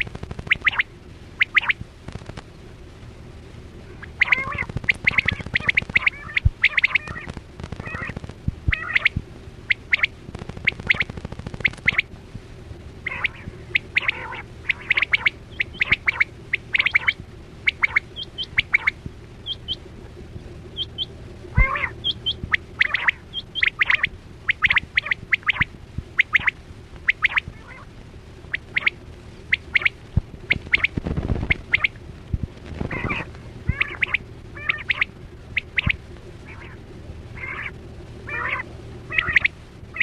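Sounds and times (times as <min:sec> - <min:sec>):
quail calling: 0:00.0 - 0:01.8, 0:03.9 - 0:12.1, 0:13.0 - 0:19.8, 0:20.7 - 0:27.9, 0:28.5 - 0:32.0, 0:32.8 - 0:36.8, 0:37.4 - 0:40.0
steady low hum: 0:00.0 - 0:40.0.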